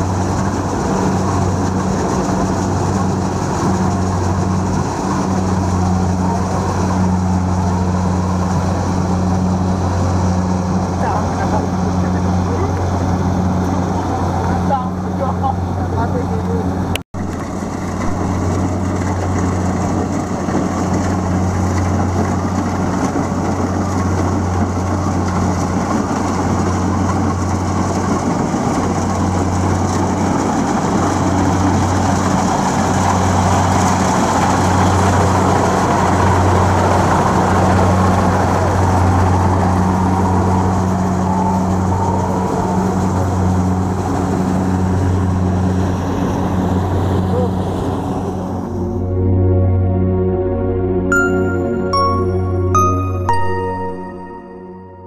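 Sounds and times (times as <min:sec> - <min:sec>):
combine harvester diesel drone: 0:00.0 - 0:53.4.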